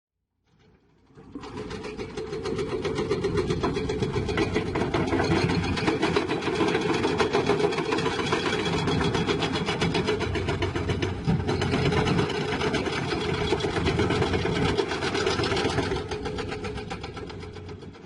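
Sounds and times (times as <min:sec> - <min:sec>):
diesel engine clattering: 0:01.3 - 0:18.0.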